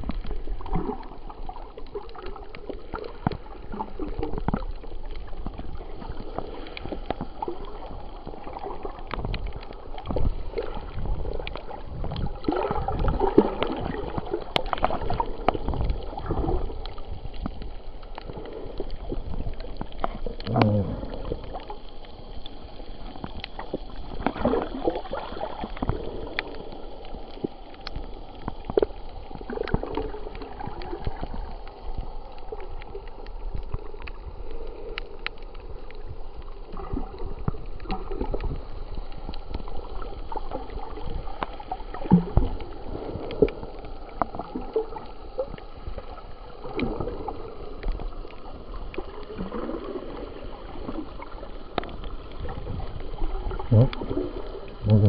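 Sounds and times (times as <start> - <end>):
underwater gurgling and swishing: 0.0 - 55.0.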